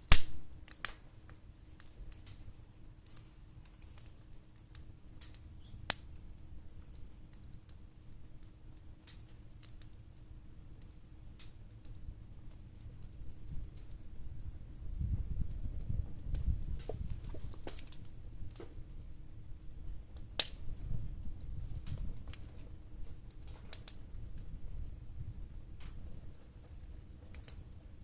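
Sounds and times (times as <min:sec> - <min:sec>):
firewood crackling: 0:00.0 - 0:28.0.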